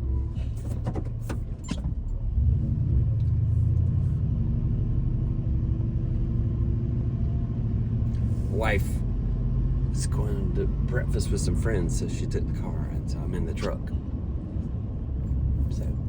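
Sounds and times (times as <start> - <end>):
truck engine low rumble: 0.0 - 16.0.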